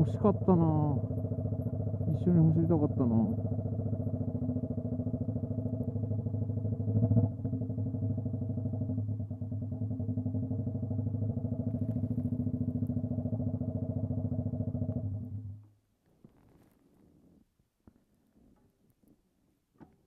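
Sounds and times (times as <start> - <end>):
motorcycle engine idling: 0.0 - 16.5.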